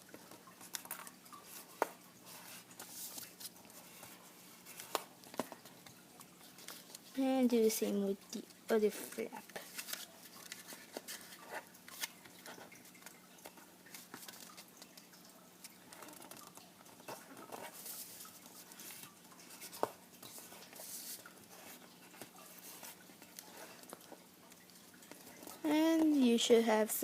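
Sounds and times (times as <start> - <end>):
paper rustling and crinkling: 0.1 - 7.2, 8.8 - 26.2.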